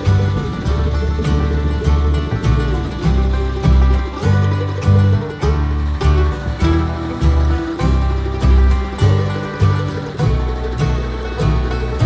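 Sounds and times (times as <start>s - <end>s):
plucked-string tune: 0.0s - 12.0s
stepping bass line: 0.0s - 12.0s.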